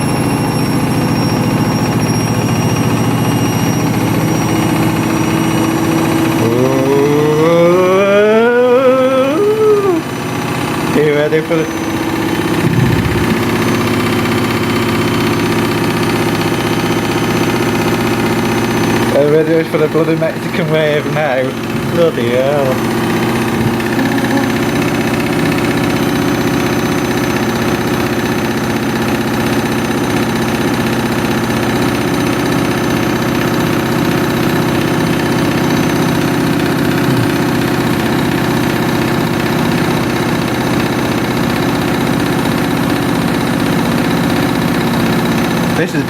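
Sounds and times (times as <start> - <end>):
washing machine drum spinning: 0.0 - 46.0.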